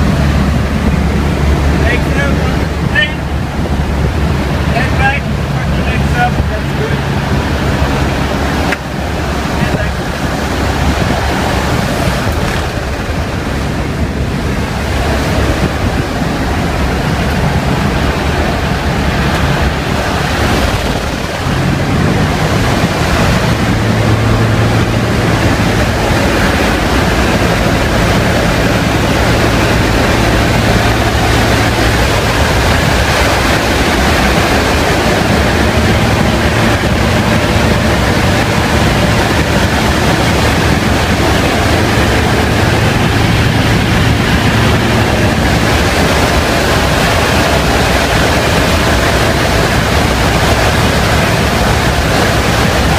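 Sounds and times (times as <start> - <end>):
aircraft piston engine drone: 0.0 - 52.9
wind rushing through open door: 0.0 - 52.9.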